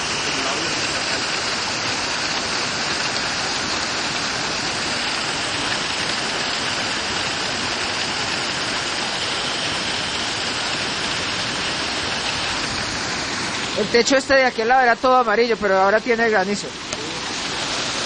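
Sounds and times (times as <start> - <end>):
heavy rain and hail: 0.0 - 18.0.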